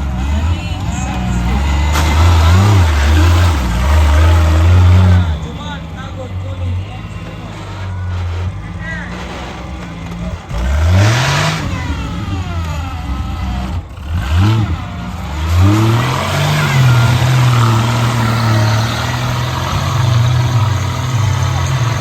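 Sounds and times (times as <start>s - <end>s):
engine revving hard: 0.0s - 22.0s.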